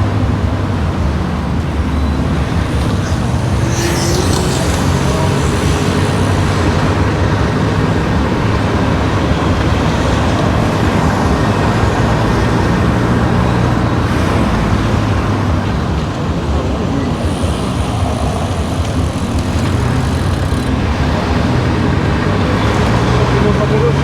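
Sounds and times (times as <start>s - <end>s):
car engine hum: 0.0s - 24.0s
tyre and road noise: 0.0s - 24.0s.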